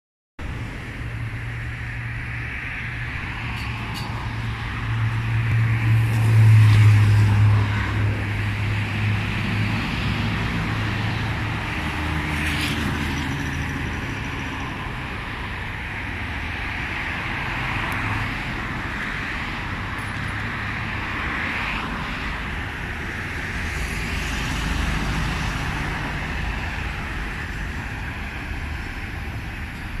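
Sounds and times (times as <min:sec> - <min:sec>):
road traffic rush: 0:00.4 - 0:30.0
vehicle engine hum passing: 0:00.4 - 0:30.0.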